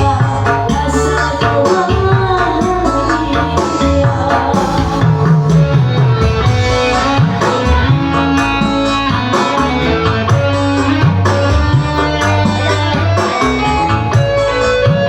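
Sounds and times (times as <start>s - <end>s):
bass line: 0.0s - 15.0s
hand-drum rhythm: 0.0s - 15.0s
plucked-string melody: 0.0s - 15.0s.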